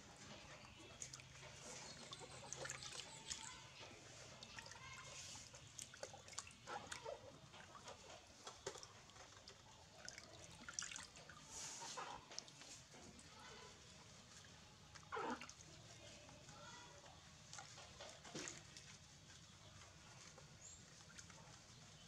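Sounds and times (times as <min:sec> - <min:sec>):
water splashing in a plastic basin: 0:00.2 - 0:22.0
water drips: 0:00.6 - 0:22.0.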